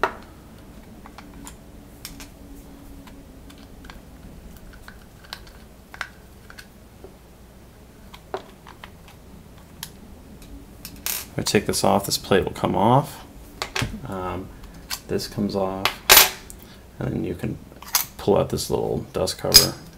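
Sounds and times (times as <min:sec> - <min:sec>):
faint low hum: 0:00.0 - 0:19.9.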